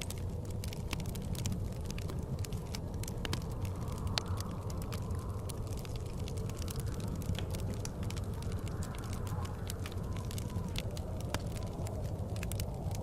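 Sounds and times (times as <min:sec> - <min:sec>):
blizzard wind: 0:00.0 - 0:13.0
wood fire crackling and popping: 0:00.0 - 0:13.0.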